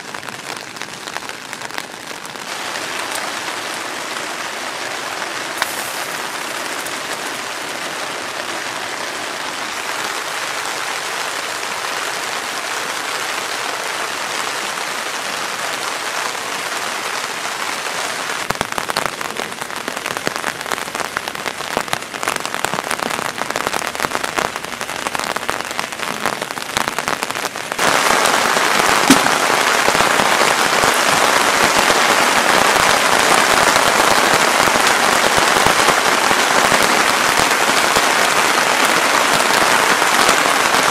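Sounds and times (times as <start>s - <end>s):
heavy rain on a tarp: 0.0s - 40.9s
sharp crackles and pops: 0.0s - 40.9s.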